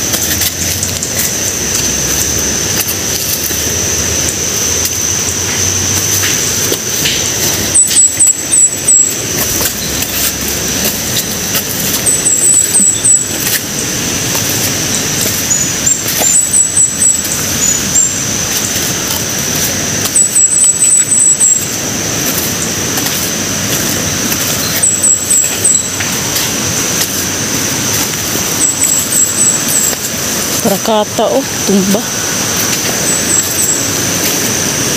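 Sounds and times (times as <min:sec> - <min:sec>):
broad rushing noise: 0:00.0 - 0:34.9
thin high whine: 0:00.0 - 0:34.9
high-pitched chirps: 0:00.6 - 0:13.8, 0:14.8 - 0:18.8, 0:20.0 - 0:21.9, 0:24.3 - 0:26.8, 0:27.4 - 0:32.2, 0:32.8 - 0:34.4.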